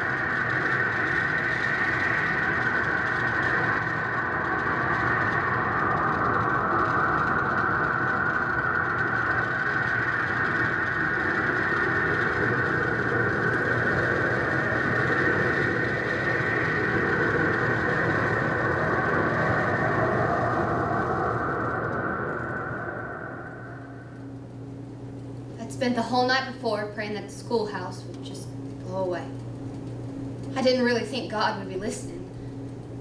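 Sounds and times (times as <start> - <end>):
steady mechanical rumble: 0.0 - 33.0.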